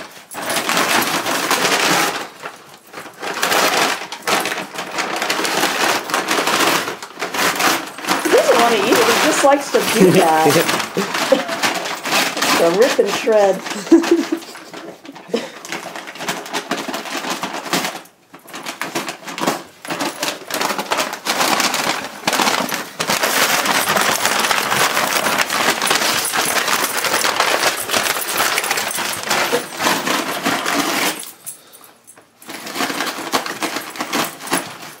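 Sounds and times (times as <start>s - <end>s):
dog shredding paper bag: 0.0s - 31.8s, 32.4s - 35.0s.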